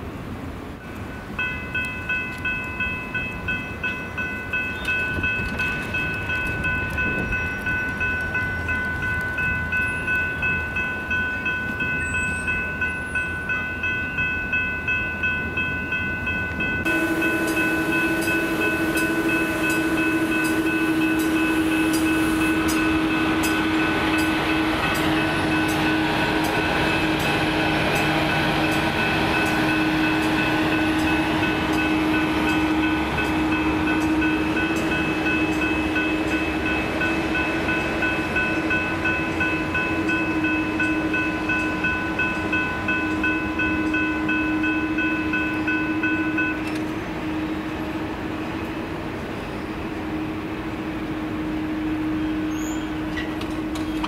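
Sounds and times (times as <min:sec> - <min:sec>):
train rolling past: 0:00.0 - 0:54.0
crossing warning bells ringing: 0:00.6 - 0:54.0.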